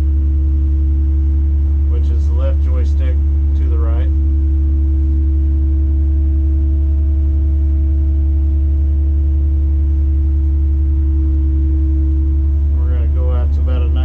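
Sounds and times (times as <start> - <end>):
held steady tone: 0.0 - 14.0
crane diesel engine droning: 1.4 - 14.0.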